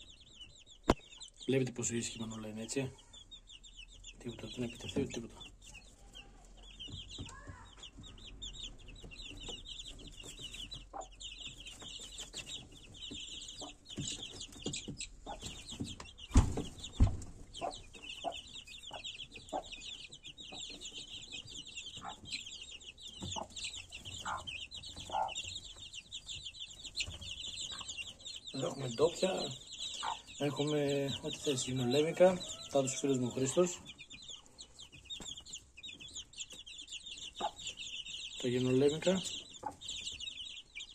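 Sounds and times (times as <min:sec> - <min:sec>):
chicks peeping: 0:00.0 - 0:40.9
hen clucking: 0:00.0 - 0:40.9.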